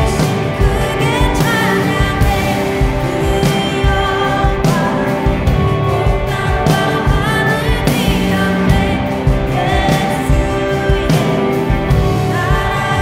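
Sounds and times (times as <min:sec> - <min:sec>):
rock band playing: 0:00.0 - 0:13.0
woman singing: 0:00.0 - 0:13.0.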